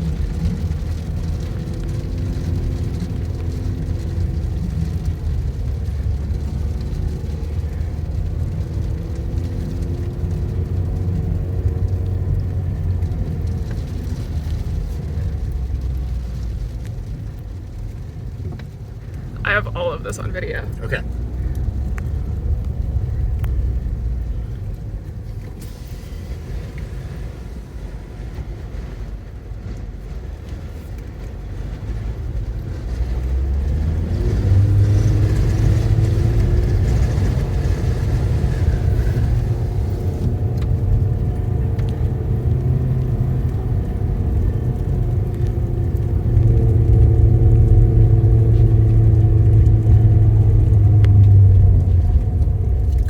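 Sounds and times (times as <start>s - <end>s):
car engine: 0.0s - 53.0s
road noise: 0.0s - 53.0s.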